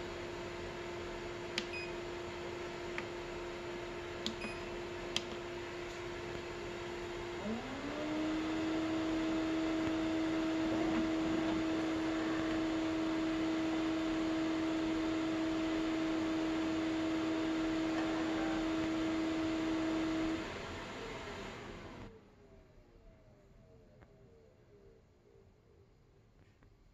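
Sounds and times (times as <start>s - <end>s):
fan winding down: 0.0s - 22.5s
printer cooling fans whining: 0.0s - 22.8s.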